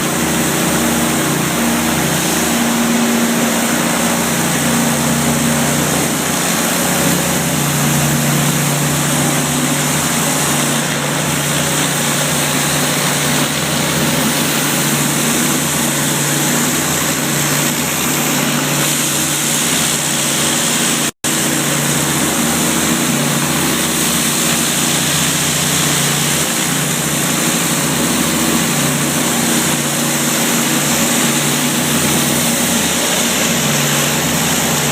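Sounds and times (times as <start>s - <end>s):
pressure washer engine hum: 0.0s - 34.9s.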